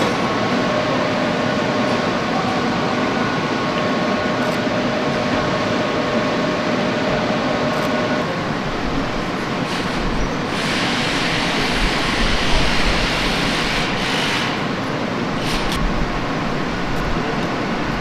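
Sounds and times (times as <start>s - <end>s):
hum of machinery and ventilation: 0.0s - 18.0s.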